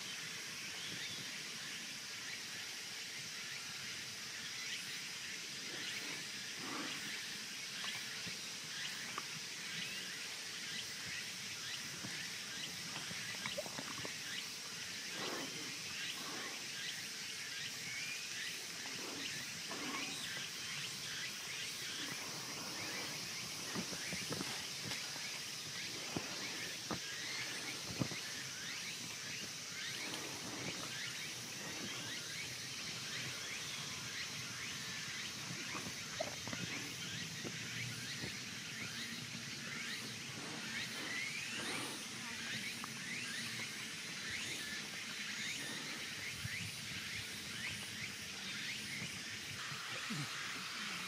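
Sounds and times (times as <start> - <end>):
high-pitched insect drone: 0.0 - 51.0.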